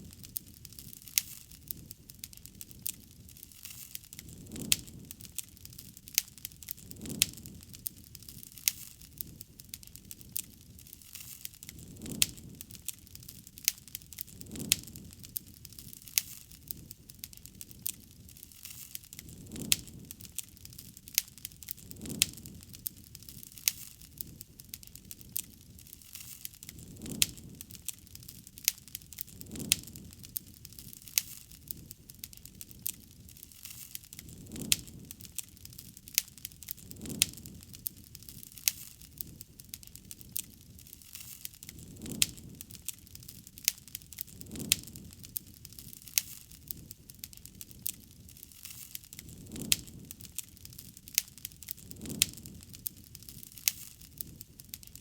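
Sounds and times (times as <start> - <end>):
campfire crackling and popping: 0.0 - 55.0
soft low swells of flames: 0.0 - 55.0.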